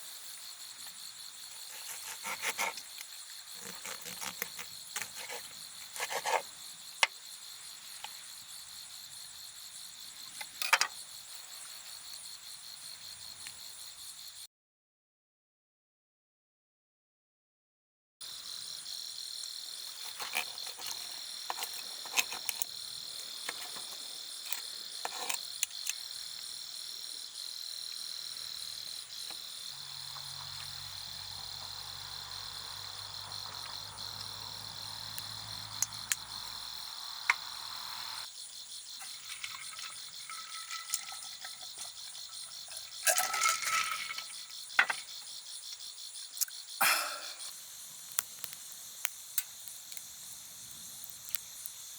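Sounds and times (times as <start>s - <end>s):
insects chirring: 0.0s - 14.5s, 18.2s - 51.9s.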